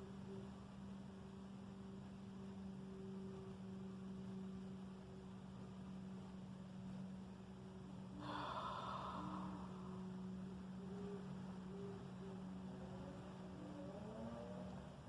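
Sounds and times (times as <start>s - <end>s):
faint rising tones: 0.0s - 15.0s
steady low hum: 0.0s - 15.0s.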